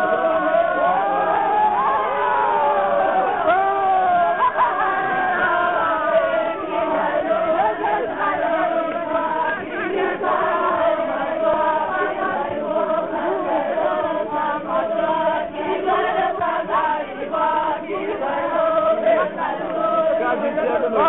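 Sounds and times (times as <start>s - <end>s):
group of voices chanting: 0.0s - 21.0s.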